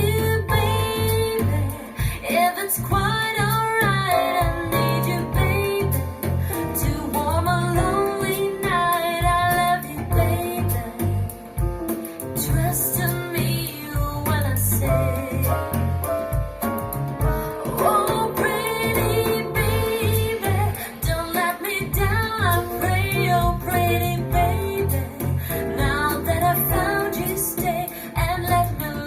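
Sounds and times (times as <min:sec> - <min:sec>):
pop song with singing and guitar: 0:00.0 - 0:29.0.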